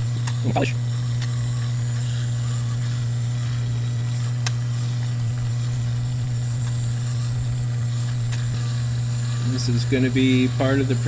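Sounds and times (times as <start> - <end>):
rotary tool humming: 0.0 - 11.0.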